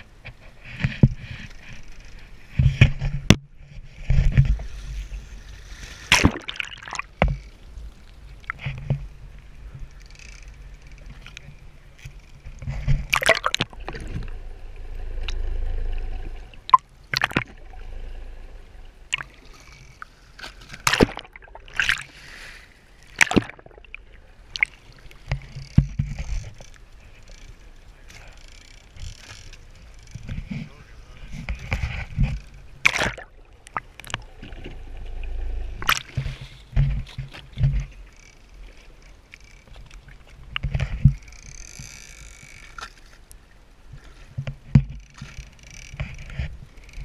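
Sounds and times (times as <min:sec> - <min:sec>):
low rumble of water: 0:00.0 - 0:47.0
water sloshing and splashing: 0:00.3 - 0:47.0.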